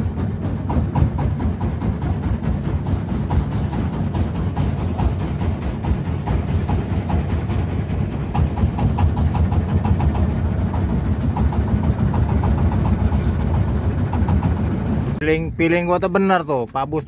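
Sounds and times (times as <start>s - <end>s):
boat engine droning: 0.0s - 15.6s.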